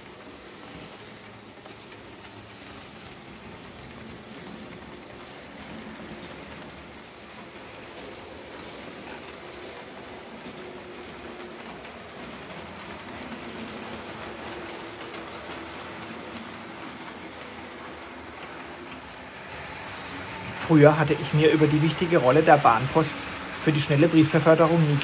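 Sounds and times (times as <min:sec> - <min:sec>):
model train wheels hissing on rails: 0:00.0 - 0:25.0.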